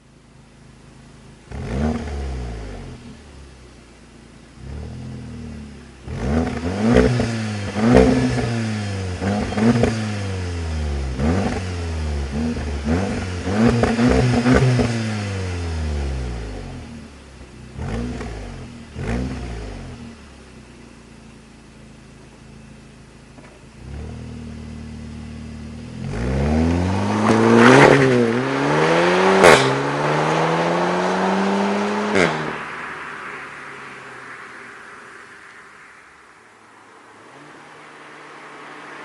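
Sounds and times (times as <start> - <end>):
car engine idling: 0.0 - 28.8, 29.8 - 39.0
car engine revving: 0.0 - 39.0.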